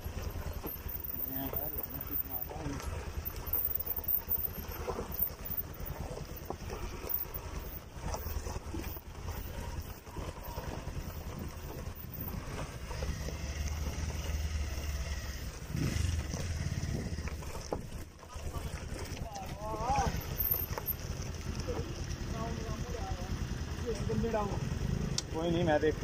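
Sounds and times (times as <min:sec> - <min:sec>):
motorcycle engines rumbling: 0:00.0 - 0:26.0.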